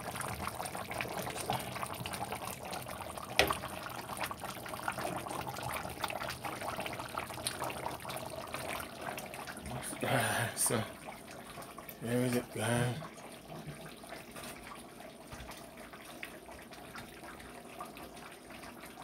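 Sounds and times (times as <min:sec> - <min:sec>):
stew bubbling at a boil: 0:00.0 - 0:19.0.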